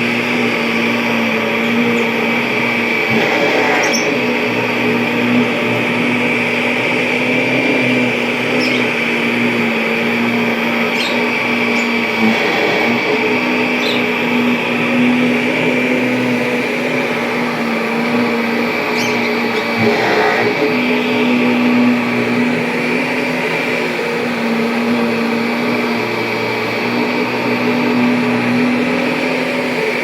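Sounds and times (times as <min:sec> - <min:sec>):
upright vacuum cleaner running: 0:00.0 - 0:30.0.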